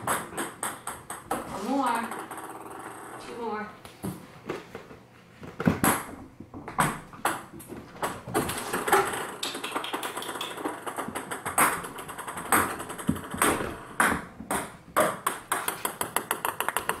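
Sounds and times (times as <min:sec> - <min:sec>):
ping pong balls bouncing on floor: 0:00.0 - 0:17.0.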